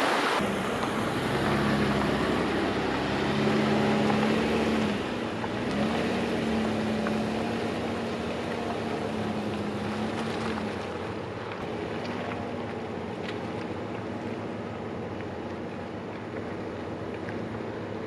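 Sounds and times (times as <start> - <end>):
off-road vehicle engine running: 0.0 - 18.0
tyre and road noise: 0.0 - 18.0.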